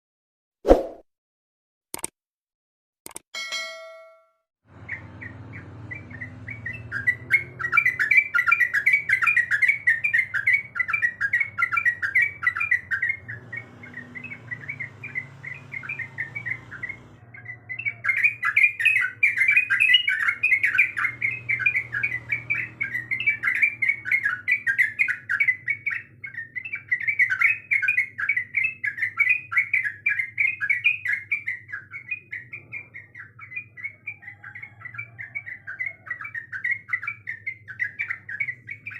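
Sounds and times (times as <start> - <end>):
bulbul chattering song: 4.7 - 38.9.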